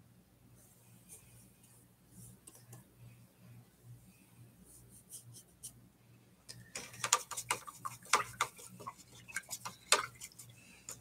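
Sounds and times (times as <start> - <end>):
faint brush strokes: 0.5 - 11.0.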